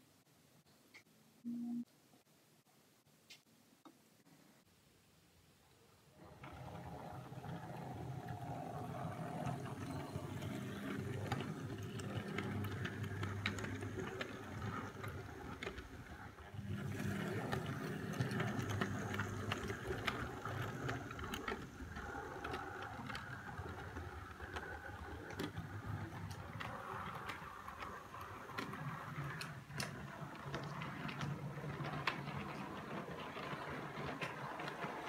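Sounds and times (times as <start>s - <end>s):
wheels clicking on track: 6.2s - 35.0s.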